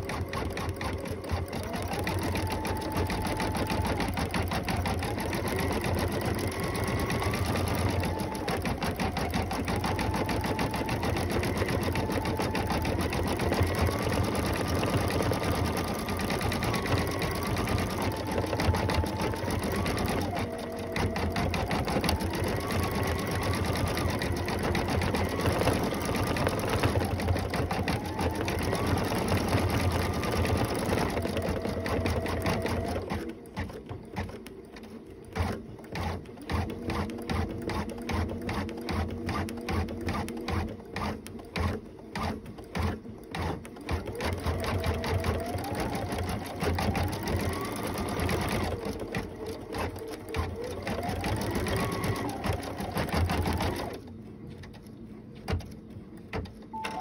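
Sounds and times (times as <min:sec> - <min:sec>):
embroidery machine stitching: 0:00.0 - 0:54.1.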